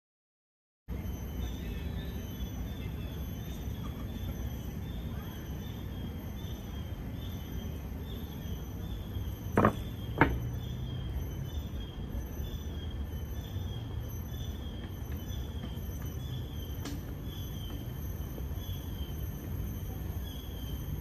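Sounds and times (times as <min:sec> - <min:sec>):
faint high chirp: 0:00.9 - 0:21.0.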